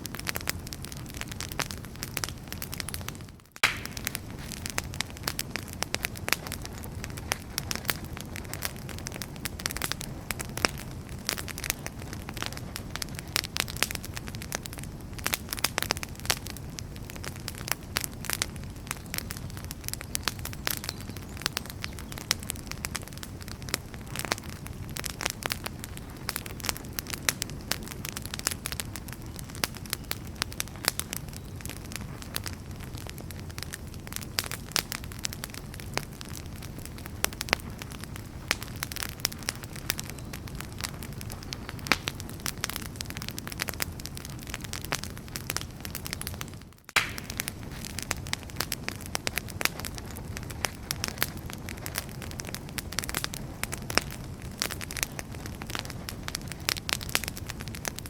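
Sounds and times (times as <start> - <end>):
burning logs crackling and popping: 0.0 - 58.0
low rush of flame: 0.0 - 58.0.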